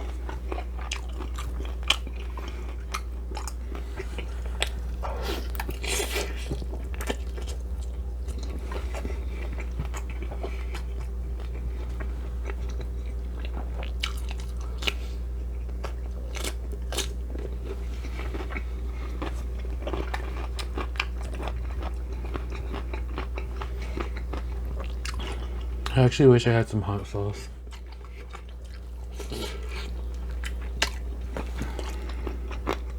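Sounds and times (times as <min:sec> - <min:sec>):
person chewing crunchy food: 0:00.0 - 0:26.0, 0:27.5 - 0:32.9.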